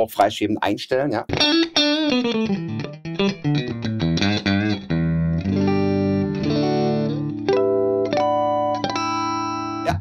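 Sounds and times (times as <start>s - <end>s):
clean electric guitar: 1.3s - 10.0s.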